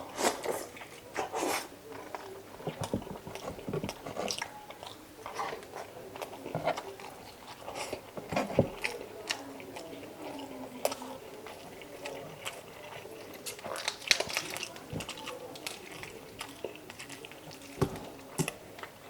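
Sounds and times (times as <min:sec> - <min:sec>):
close-miked chewing: 0:00.0 - 0:19.0.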